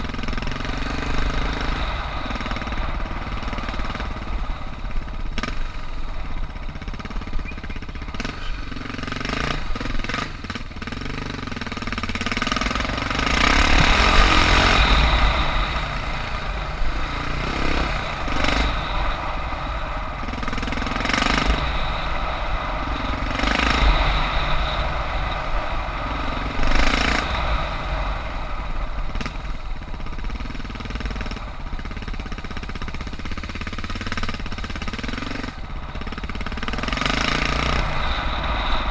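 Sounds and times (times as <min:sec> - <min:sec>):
motorcycle engine chugging: 0:00.0 - 0:38.9.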